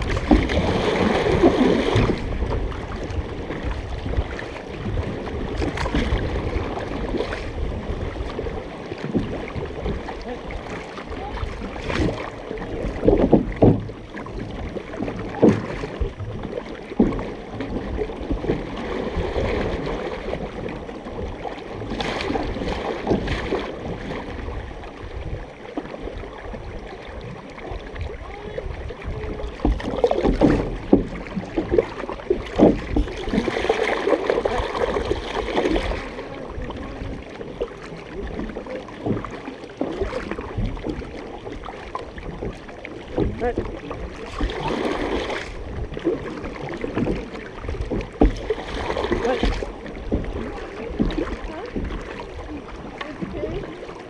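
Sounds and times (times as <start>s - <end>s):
paddle splashes: 0.0s - 54.0s
water washing along a hull: 0.0s - 54.0s.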